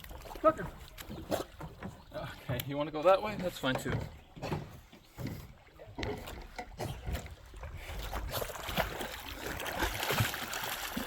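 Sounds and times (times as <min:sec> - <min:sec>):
dog paddling in water: 0:00.0 - 0:11.0.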